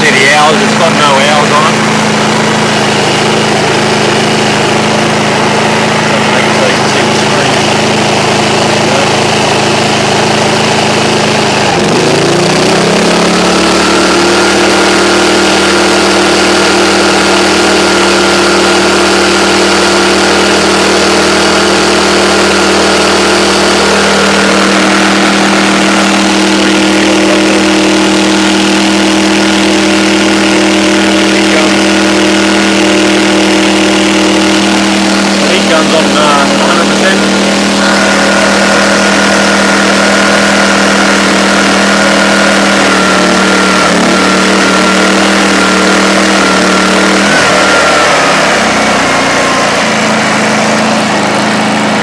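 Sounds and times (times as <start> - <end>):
portable generator engine running: 0.0 - 52.0.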